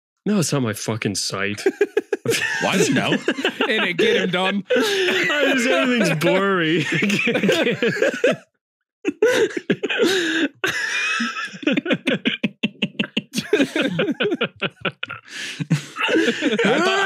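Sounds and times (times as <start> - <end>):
men laughing: 1.5 - 17.0.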